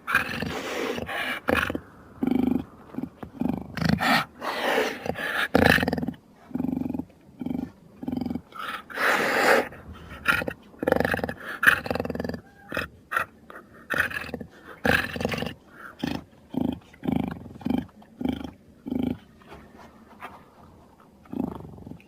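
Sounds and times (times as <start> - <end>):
jaguar grunting and growling: 0.0 - 19.2, 21.2 - 22.0
jaguar snarl: 0.0 - 19.2.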